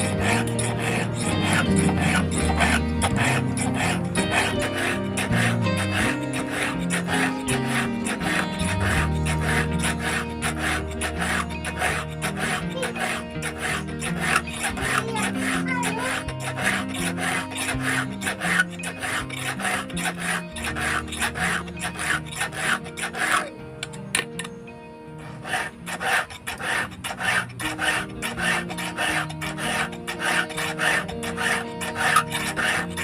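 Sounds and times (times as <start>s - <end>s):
file rasping on chainsaw chain: 0.0s - 24.6s, 25.2s - 33.0s.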